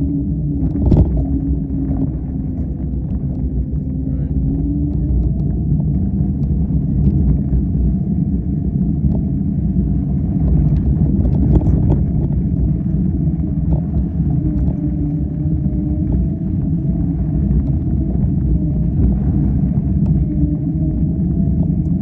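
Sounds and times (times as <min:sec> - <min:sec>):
low rumble of riding on sand: 0:00.0 - 0:22.0.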